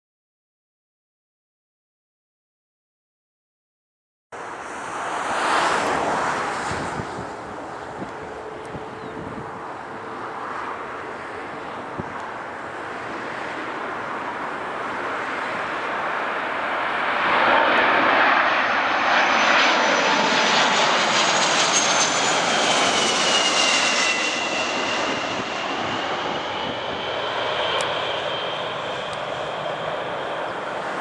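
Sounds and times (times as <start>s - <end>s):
high jet fan whine: 4.4s - 31.0s
jet airliner passing: 4.4s - 31.0s.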